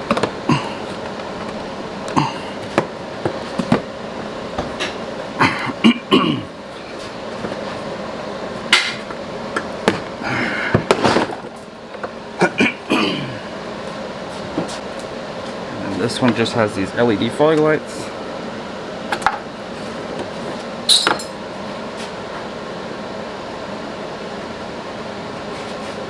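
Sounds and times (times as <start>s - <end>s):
fan humming: 0.0s - 26.0s.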